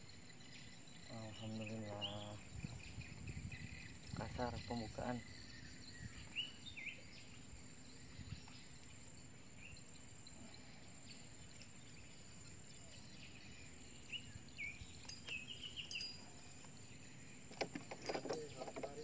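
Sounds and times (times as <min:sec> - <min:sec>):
bird chirping: 0:00.0 - 0:19.0
insect hum: 0:00.0 - 0:19.0.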